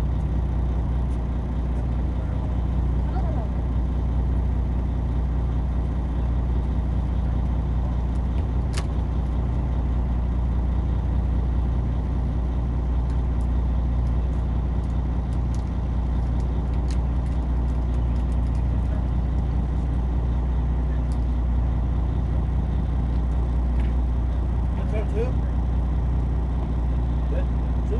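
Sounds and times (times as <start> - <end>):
boat engine droning: 0.0 - 27.9.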